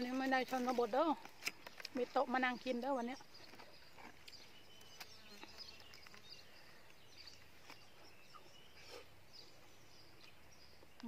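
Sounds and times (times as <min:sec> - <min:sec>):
small bird chirps: 0:01.4 - 0:11.0.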